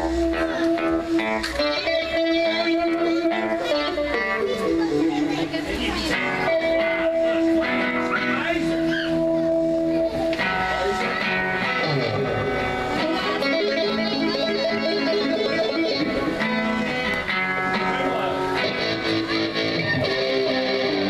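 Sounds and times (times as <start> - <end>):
electric guitars bending notes: 0.0 - 21.0
live band playing: 0.0 - 21.0.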